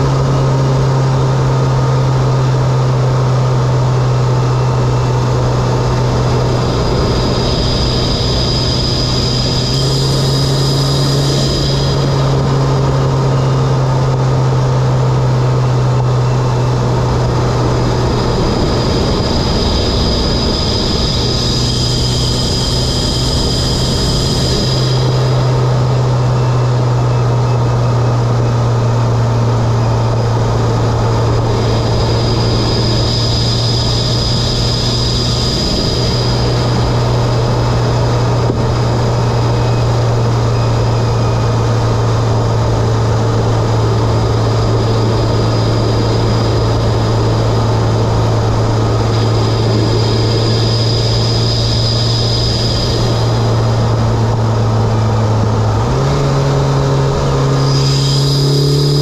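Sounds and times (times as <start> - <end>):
car engine droning: 0.0 - 59.0
high whine: 0.0 - 59.0.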